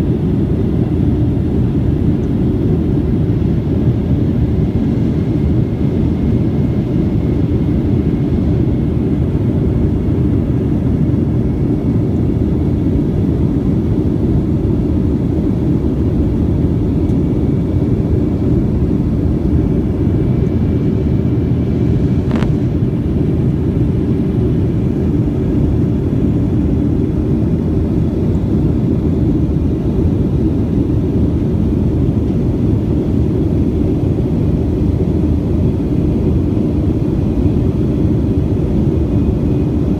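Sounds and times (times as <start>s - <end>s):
jet airliner roar in cabin: 0.0s - 39.9s.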